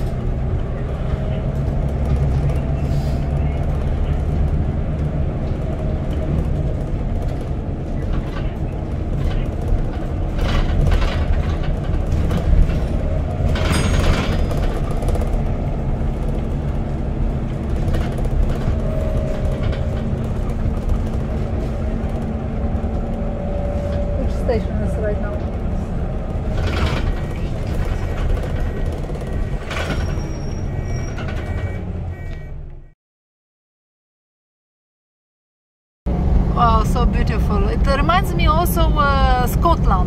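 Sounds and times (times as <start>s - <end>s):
engine and road rumble: 0.0s - 33.0s, 36.1s - 40.0s.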